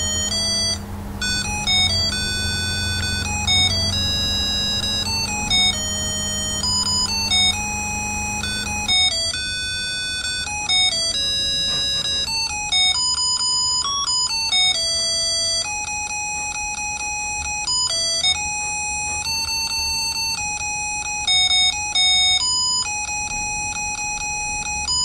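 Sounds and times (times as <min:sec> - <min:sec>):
beeping electronic christmas tune: 0:00.0 - 0:25.0.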